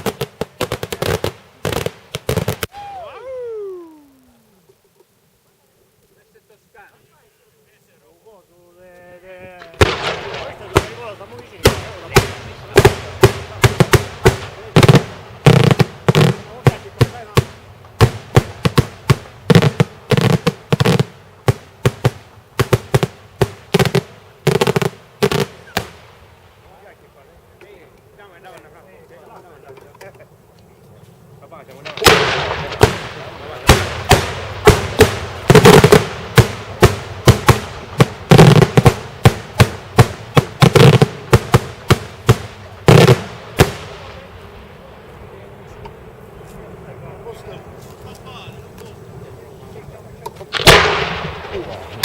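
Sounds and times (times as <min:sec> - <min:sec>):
fireworks bangs and crackling: 0:00.0 - 0:05.1, 0:08.8 - 0:30.2, 0:30.9 - 0:52.0.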